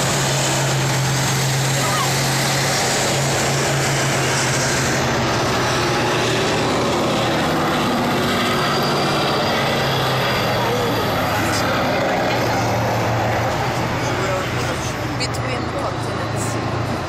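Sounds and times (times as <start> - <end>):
heavy diesel engines driving past: 0.0 - 17.0.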